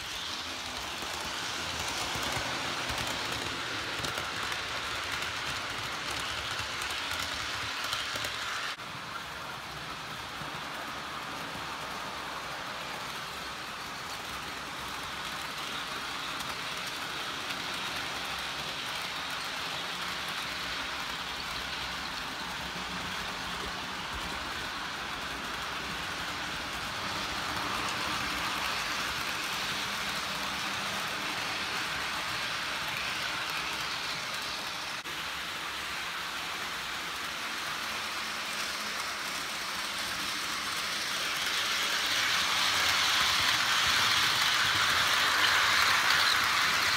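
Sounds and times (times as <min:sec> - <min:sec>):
model train whirring on track: 0:00.0 - 0:46.9.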